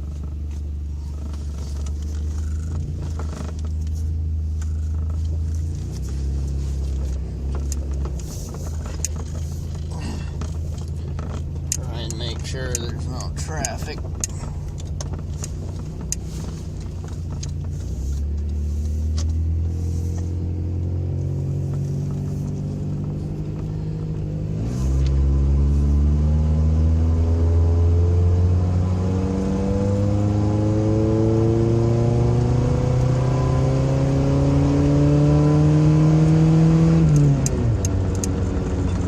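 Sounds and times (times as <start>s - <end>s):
truck engine accelerating: 0.0s - 39.0s.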